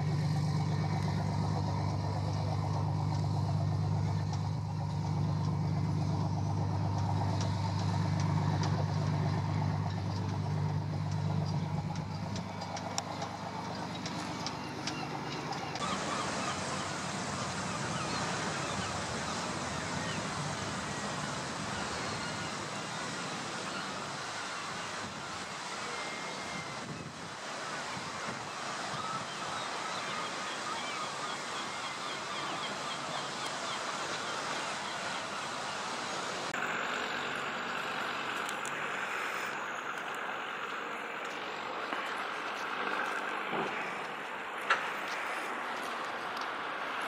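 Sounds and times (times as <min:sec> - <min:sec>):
boat engine running low: 0:00.0 - 0:47.0
choppy sea: 0:00.0 - 0:47.0.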